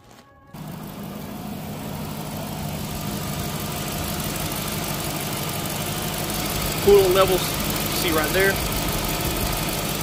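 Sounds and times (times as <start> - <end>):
car engine idling: 0.6 - 10.0.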